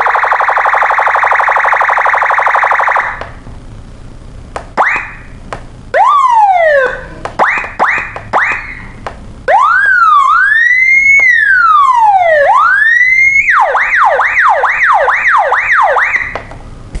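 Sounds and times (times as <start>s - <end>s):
electronic siren wailing and yelping: 0.0s - 3.2s, 4.8s - 16.5s.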